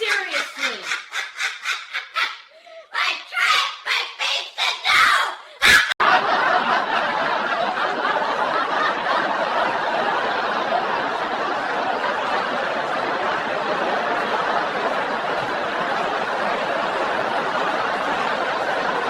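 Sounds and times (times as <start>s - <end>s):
crowd laughing: 0.0s - 3.2s, 5.5s - 19.0s.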